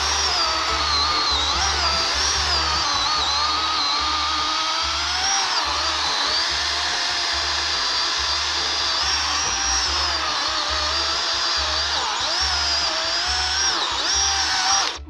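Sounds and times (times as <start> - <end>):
background music with bass line: 0.0 - 15.0
chainsaw cutting wood: 0.0 - 15.0.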